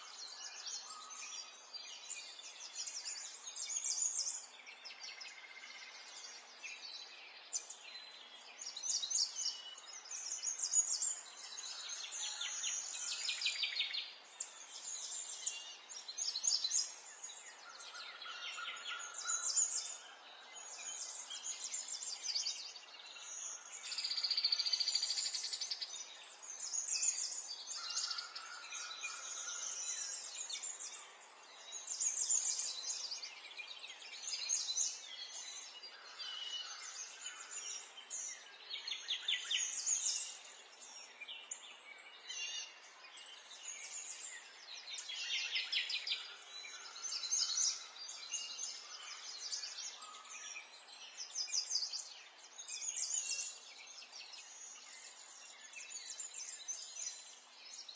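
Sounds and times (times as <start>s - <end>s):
faint outdoor background noise: 0.0s - 57.9s
songbirds chirping and trilling: 0.0s - 57.9s.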